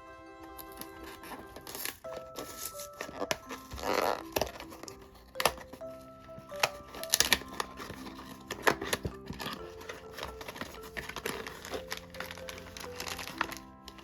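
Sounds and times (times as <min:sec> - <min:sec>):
soft background music: 0:00.0 - 0:14.0
plastic packaging clicks and crinkles: 0:01.2 - 0:14.0.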